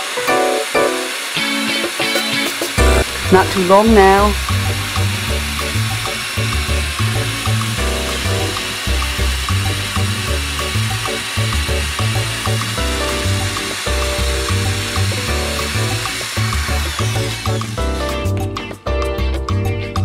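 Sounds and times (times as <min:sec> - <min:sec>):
drill grinding wet ceramic: 0:00.0 - 0:18.4
background music with bass line: 0:02.8 - 0:20.0.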